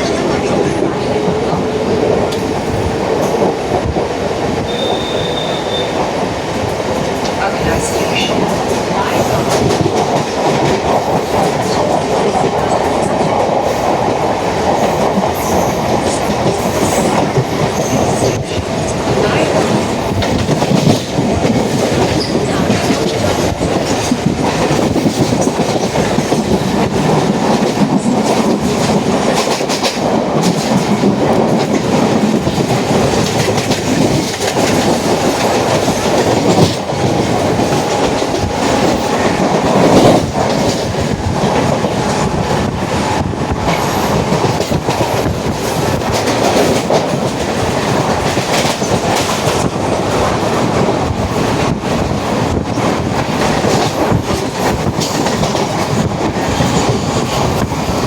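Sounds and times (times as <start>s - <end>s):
train rumbling: 0.0s - 58.0s
wheels clacking over rail joints: 0.0s - 58.0s.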